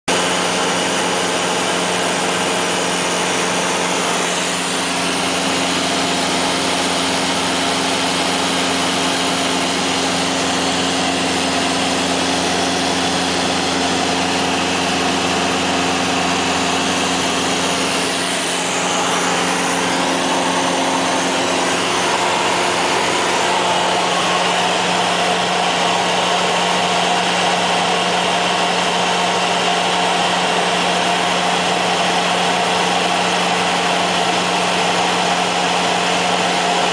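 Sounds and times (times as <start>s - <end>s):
aircraft engine and propeller droning: 0.2s - 36.7s.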